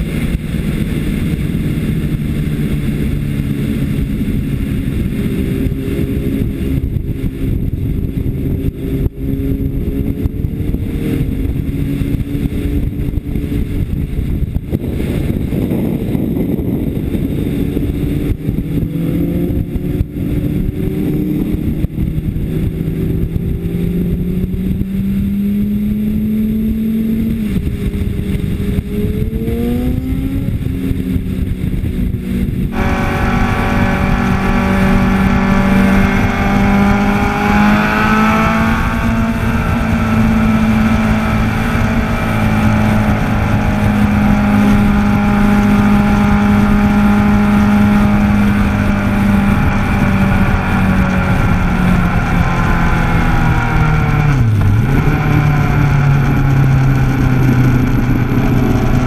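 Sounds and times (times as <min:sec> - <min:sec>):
motorcycle engine running hard: 0:00.0 - 0:59.0
wind rush on microphone: 0:00.0 - 0:59.0.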